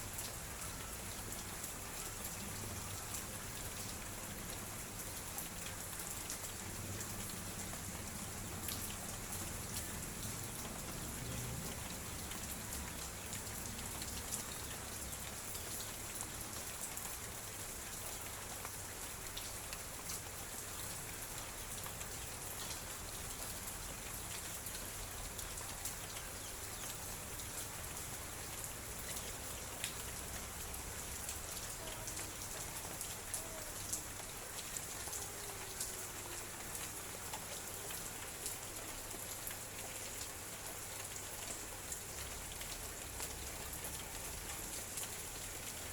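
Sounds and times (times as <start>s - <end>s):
raindrops ticking on a surface: 0.0s - 45.9s
steady hiss of rain: 0.0s - 45.9s.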